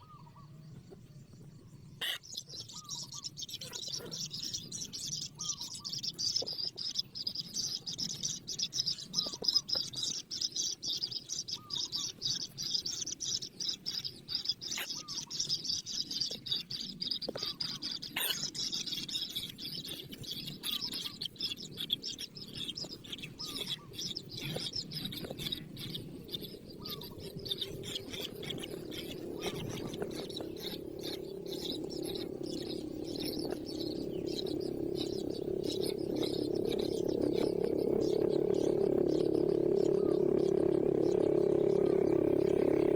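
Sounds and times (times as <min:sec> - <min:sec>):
birds chirping: 0:00.0 - 0:42.9
lower bird calls: 0:00.0 - 0:42.9
steady low hum: 0:00.0 - 0:42.9.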